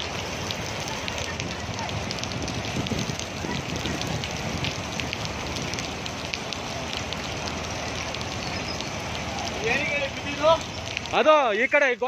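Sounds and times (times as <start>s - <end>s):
river rushing: 0.0s - 11.7s
rain ticks: 0.0s - 12.0s.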